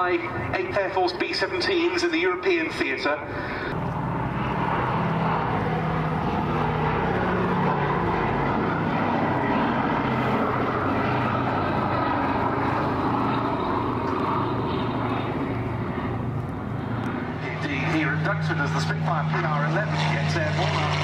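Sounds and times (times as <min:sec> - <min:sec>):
propeller aircraft engines droning: 0:00.0 - 0:21.0.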